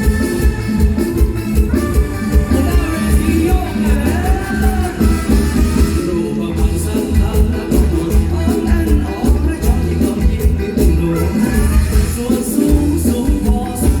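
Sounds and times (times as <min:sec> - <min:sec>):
heavy steady drum beat: 0:00.0 - 0:14.0
live band music: 0:00.0 - 0:14.0.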